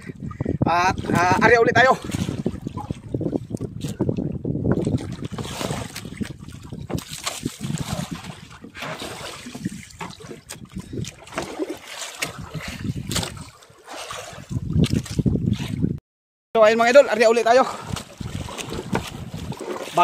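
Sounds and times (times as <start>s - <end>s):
sea water sloshing around boat: 0.0s - 16.0s, 17.0s - 20.0s
wind on microphone: 0.0s - 16.0s, 17.6s - 20.0s.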